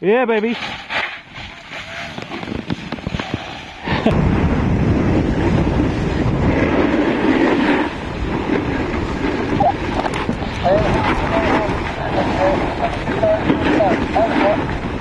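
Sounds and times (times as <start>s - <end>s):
crackles: 0.3s - 4.6s, 5.3s - 15.0s
wind rushing over microphone: 0.4s - 15.0s
snowboard scraping across snow: 0.5s - 14.6s.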